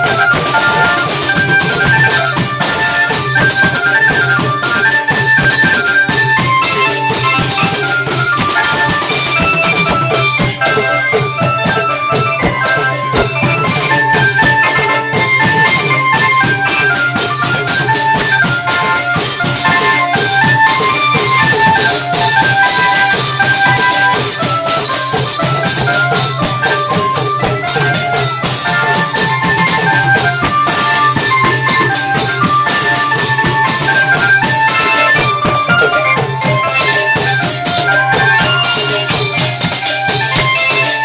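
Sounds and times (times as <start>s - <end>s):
jingling percussion: 0.0s - 41.0s
long-drum ensemble playing: 0.0s - 41.0s.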